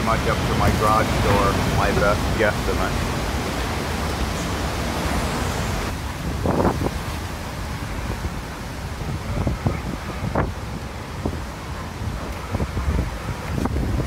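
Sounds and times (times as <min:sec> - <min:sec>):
wind and driving rain rushing: 0:00.0 - 0:14.0
wind buffeting microphone: 0:00.0 - 0:14.0.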